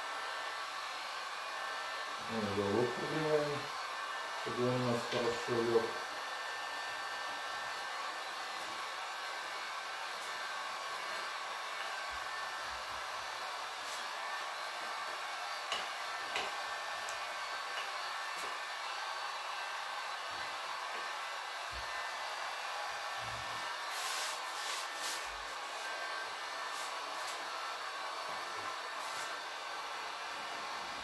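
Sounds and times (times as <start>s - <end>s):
heat gun blowing: 0.0s - 31.0s.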